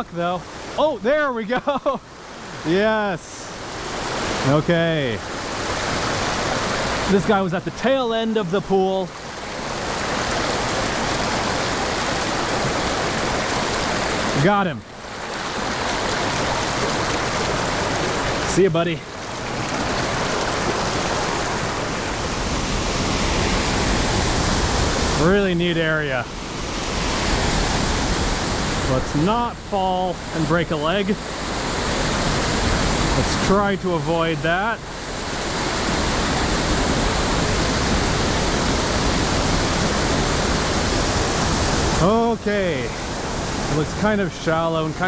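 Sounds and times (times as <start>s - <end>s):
stream water rushing: 0.0s - 45.0s.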